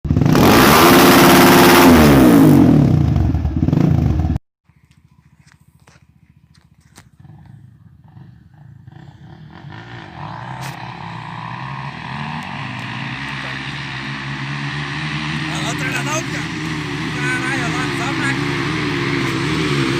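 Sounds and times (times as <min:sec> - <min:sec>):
motorcycle engine: 0:00.0 - 0:19.9.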